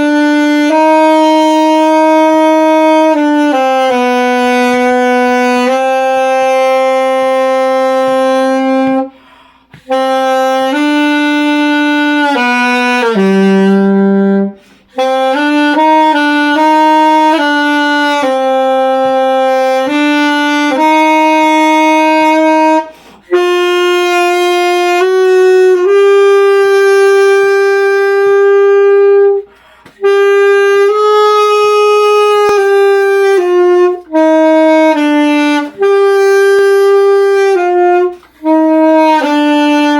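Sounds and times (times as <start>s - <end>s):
saxophone playing slow melody: 0.0s - 39.9s.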